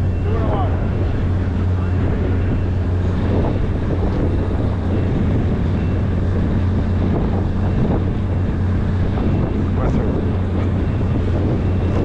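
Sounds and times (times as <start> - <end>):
boat engine humming: 0.0 - 12.0
wind buffeting microphone: 0.0 - 12.0.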